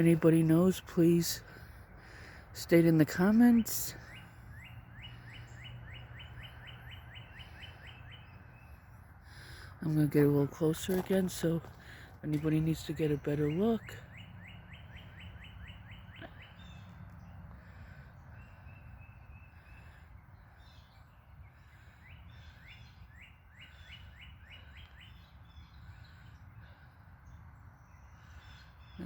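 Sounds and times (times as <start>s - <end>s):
bird singing: 0.0s - 29.0s.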